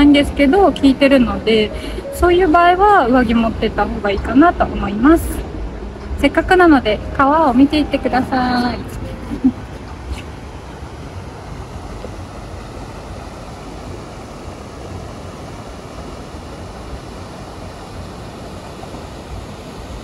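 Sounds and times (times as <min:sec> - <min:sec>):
river water rushing over weir: 0:00.0 - 0:20.0.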